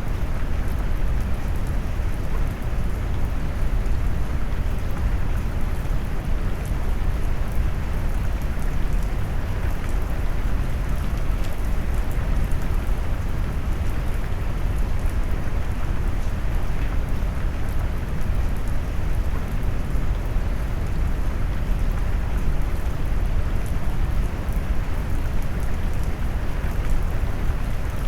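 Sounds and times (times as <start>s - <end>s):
low brown-noise rumble: 0.0s - 28.0s
rain: 0.0s - 28.0s.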